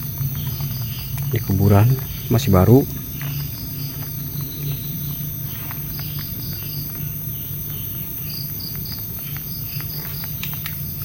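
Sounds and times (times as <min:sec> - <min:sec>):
faint clicks: 0:00.0 - 0:11.0
night insects chirping: 0:00.0 - 0:11.0
steady low hum: 0:00.0 - 0:11.0.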